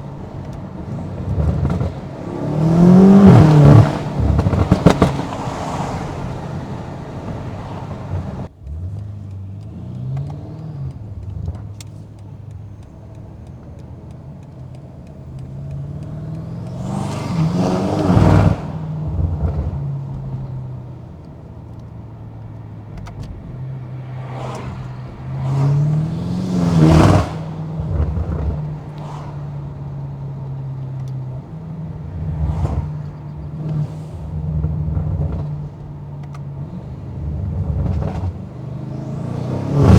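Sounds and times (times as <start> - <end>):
car engine accelerating and cruising: 0.0 - 39.9.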